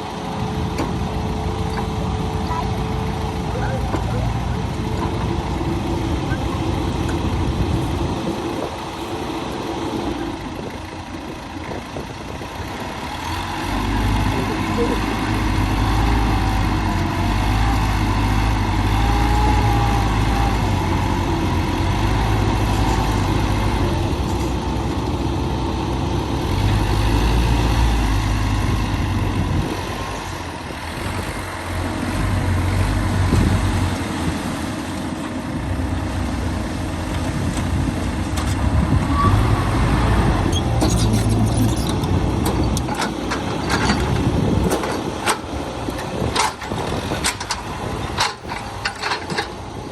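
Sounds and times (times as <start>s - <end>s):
heavy engine running: 0.0s - 49.9s.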